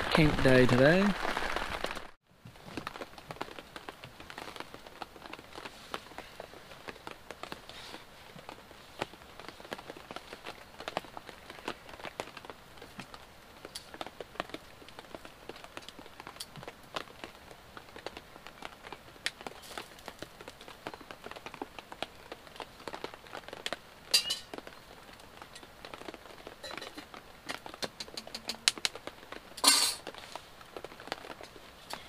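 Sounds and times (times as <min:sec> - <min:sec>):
rain dripping on tarpaulin: 0:00.0 - 0:32.0.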